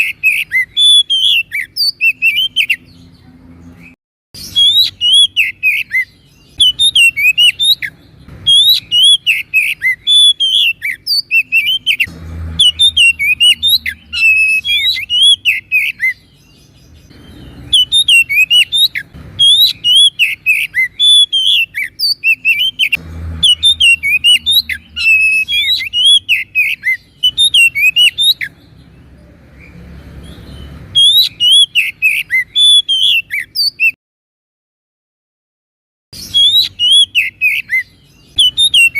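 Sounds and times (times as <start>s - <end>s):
bird singing whistles and chirps: 0.0s - 34.0s, 36.2s - 38.9s.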